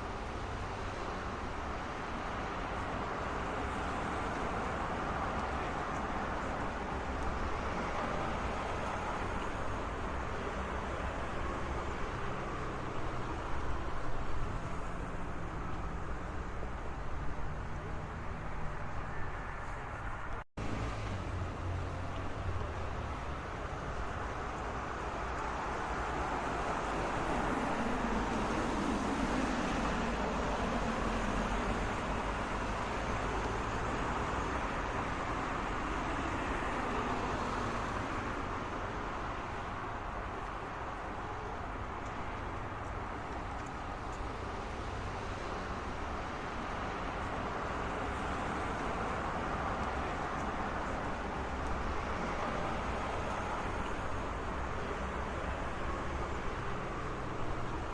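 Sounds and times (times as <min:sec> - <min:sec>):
passing cars: 0:00.0 - 0:57.9.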